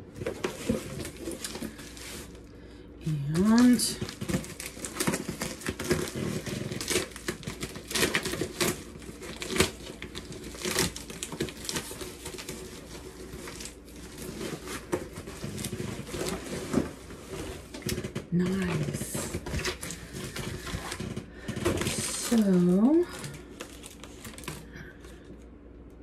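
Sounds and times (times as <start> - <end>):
plastic mailer bag crinkling: 0.0 - 25.4.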